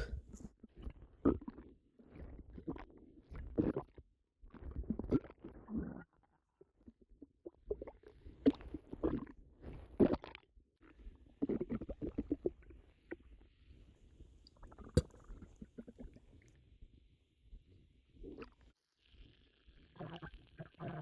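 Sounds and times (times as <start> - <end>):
stomach gurgling and rumbling: 0.0 - 13.6, 14.5 - 21.0.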